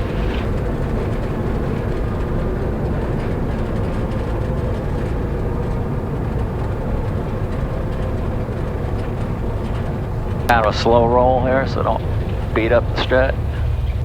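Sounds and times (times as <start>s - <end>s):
light aircraft engine at low power: 0.0s - 14.0s
wheels rumbling over runway: 0.0s - 14.0s.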